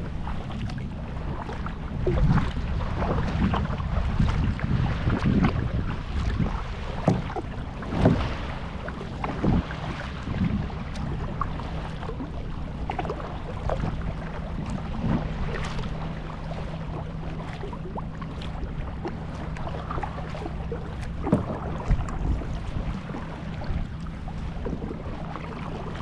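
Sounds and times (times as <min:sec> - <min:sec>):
paddle splashing water: 0:00.0 - 0:26.0
wind on microphone: 0:00.0 - 0:26.0.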